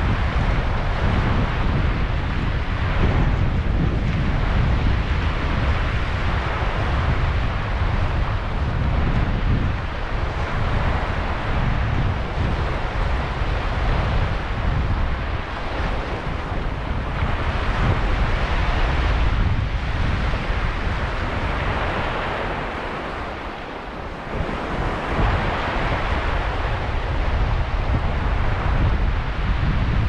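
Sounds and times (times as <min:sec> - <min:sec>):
sea waves breaking on shore: 0:00.0 - 0:30.0
wind buffeting microphone: 0:00.0 - 0:30.0.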